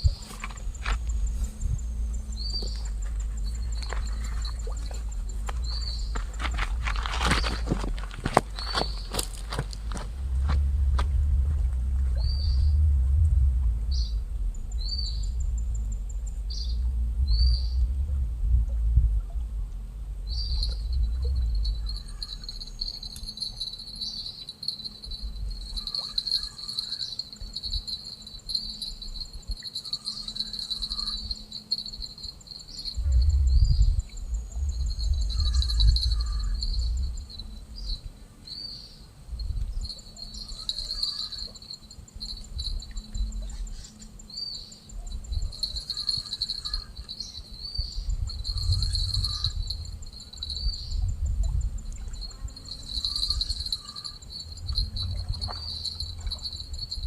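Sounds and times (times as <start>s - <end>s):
wind rumble on microphone: 0.0s - 24.1s, 25.0s - 26.0s, 32.8s - 57.0s
crickets chirping: 0.0s - 57.0s.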